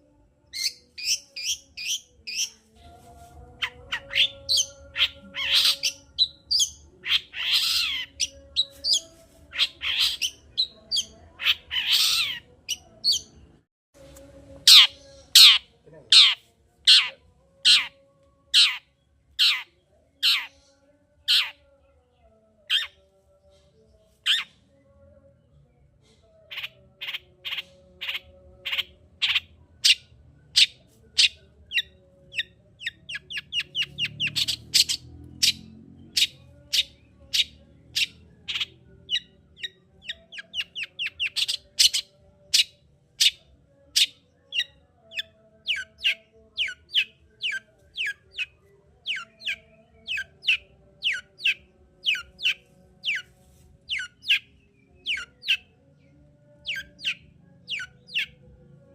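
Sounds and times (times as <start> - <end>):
shrike singing: 0.0 - 13.5, 14.3 - 21.8, 22.4 - 25.1, 26.5 - 58.9.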